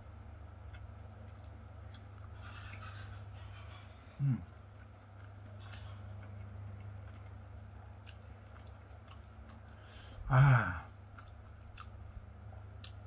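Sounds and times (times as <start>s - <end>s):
low hum: 0.0s - 13.0s
man chewing: 0.4s - 10.3s, 10.9s - 13.0s.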